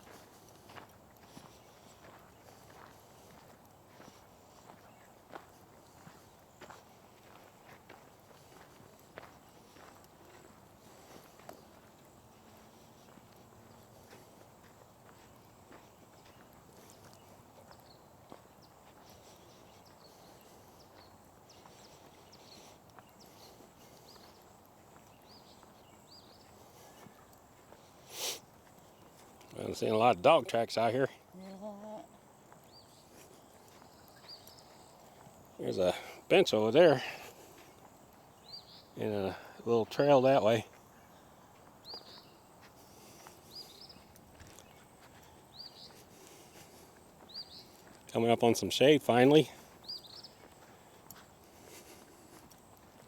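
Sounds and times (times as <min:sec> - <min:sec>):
faint footsteps in sand: 0:00.0 - 0:53.0.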